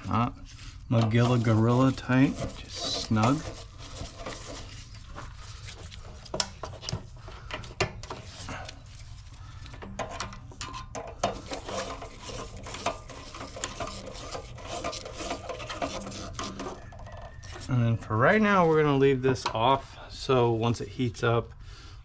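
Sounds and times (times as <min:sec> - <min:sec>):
gloved hands rubbing and scraping: 0:00.0 - 0:07.2, 0:08.1 - 0:09.7, 0:11.2 - 0:20.0.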